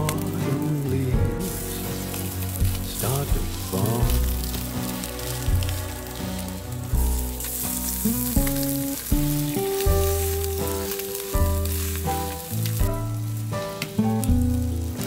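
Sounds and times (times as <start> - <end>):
background music with bass line: 0.0 - 15.0
food sizzling in pan: 0.0 - 15.0.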